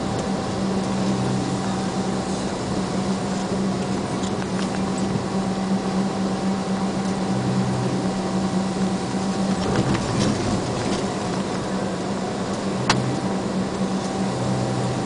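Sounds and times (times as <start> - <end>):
faint steady whine: 0.0 - 15.0
vehicle engine and tyre noise: 0.0 - 15.0.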